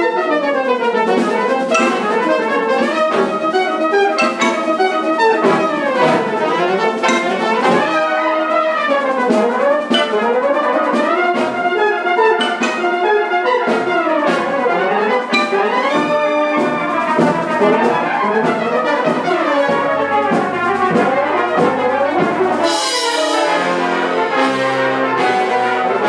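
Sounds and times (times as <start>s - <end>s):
brass band playing: 0.0s - 26.0s.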